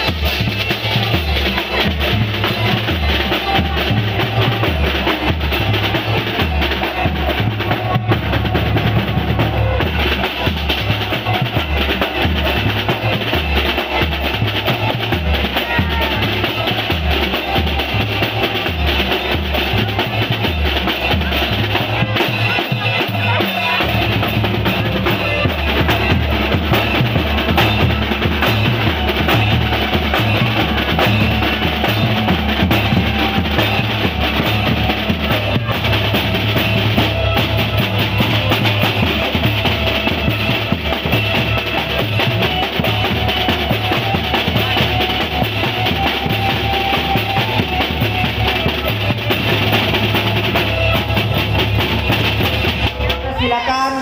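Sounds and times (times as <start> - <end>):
snare drums: 0.0 - 53.3
bass drums: 0.0 - 53.4
hand cymbals clashing: 9.7 - 53.0.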